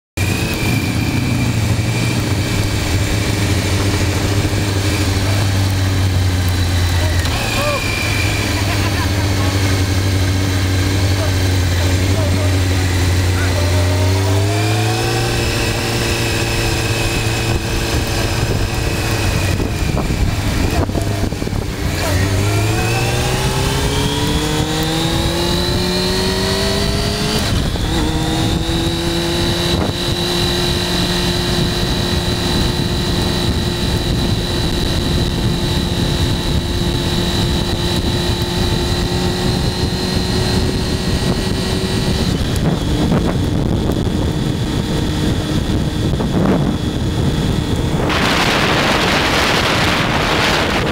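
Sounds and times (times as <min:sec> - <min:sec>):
motorcycle engine accelerating: 0:00.1 - 0:50.9.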